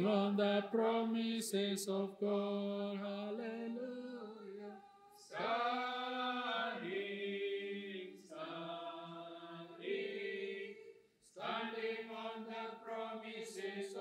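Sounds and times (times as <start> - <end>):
group singing a hymn: 0.0 - 14.0.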